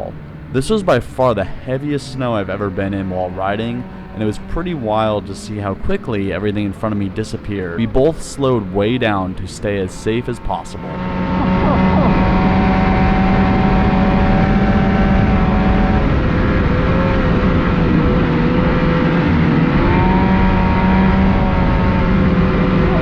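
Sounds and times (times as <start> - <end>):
rushing track and wind noise: 0.0 - 23.0
snowmobile engine running: 0.0 - 23.0.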